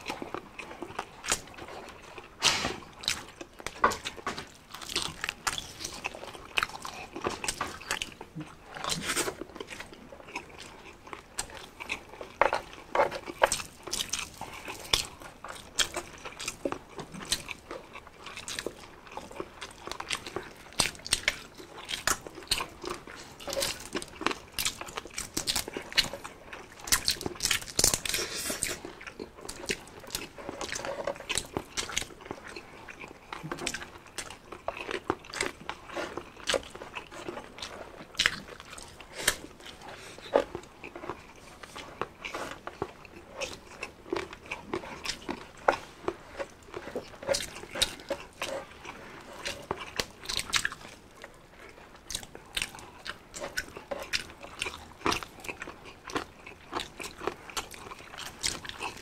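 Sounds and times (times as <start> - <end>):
crunching crispy food: 0.0 - 59.0.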